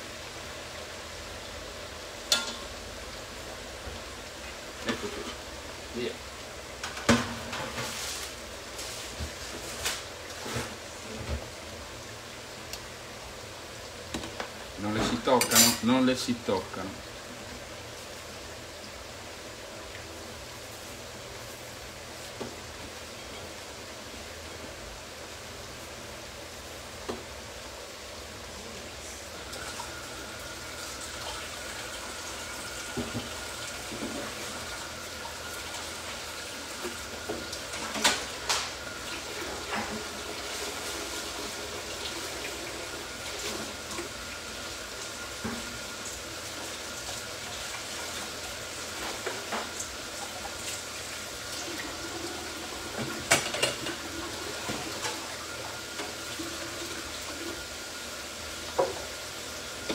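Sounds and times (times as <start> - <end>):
chips sizzling in hot oil: 0.0 - 59.9.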